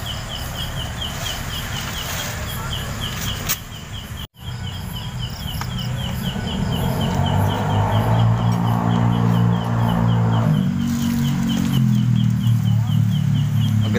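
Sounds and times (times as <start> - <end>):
insect chirping: 0.0 - 13.9.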